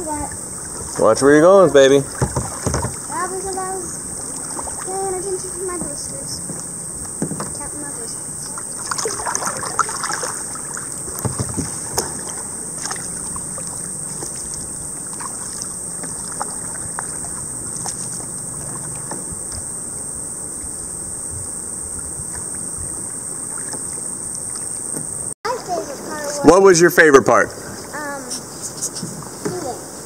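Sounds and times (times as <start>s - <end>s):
paddle water splashing and dripping: 0.0s - 20.8s, 21.5s - 26.8s
steady high hiss: 0.0s - 30.0s.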